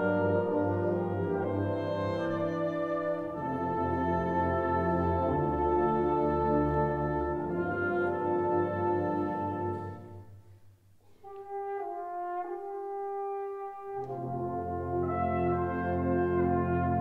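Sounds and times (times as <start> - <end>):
concert wind band playing: 0.0 - 10.5, 11.1 - 17.0.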